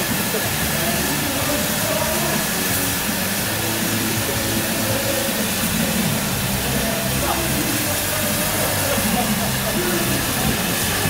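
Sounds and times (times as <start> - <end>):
hiss of escaping steam: 0.0 - 11.0
live band playing: 0.0 - 11.0
steam locomotive reversing: 0.0 - 11.0.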